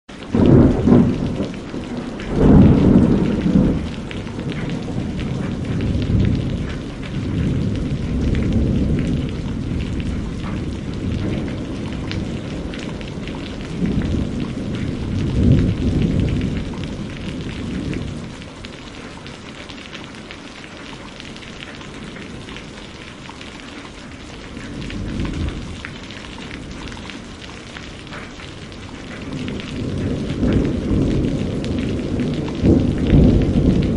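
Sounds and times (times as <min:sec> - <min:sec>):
heavy rain: 0:00.1 - 0:33.9
rolling thunder: 0:00.2 - 0:18.7, 0:24.3 - 0:33.9.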